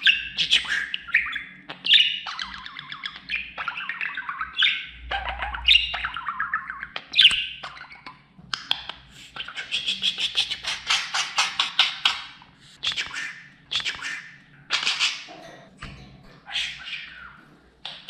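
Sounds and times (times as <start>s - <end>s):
budgerigar warbling and chattering: 0.0s - 15.6s, 16.4s - 18.0s.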